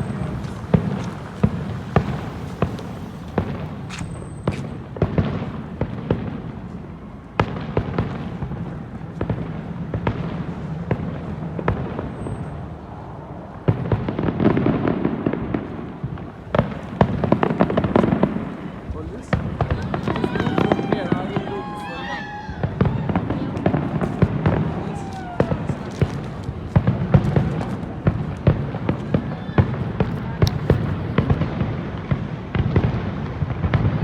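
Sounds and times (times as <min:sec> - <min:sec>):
continuous rumble: 0:00.0 - 0:34.0
fireworks bangs and crackles: 0:00.0 - 0:34.0.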